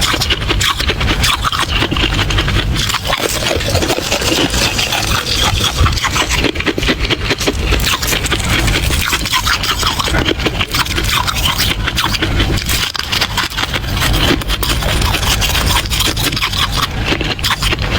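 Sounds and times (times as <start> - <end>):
frost ice crunching: 0.0 - 17.9.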